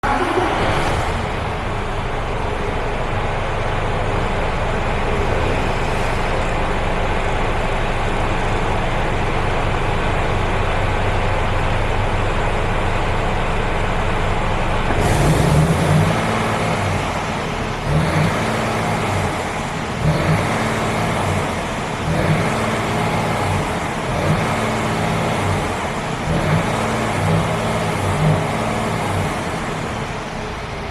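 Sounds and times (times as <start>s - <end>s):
diesel engine idling and revving: 0.0s - 30.9s.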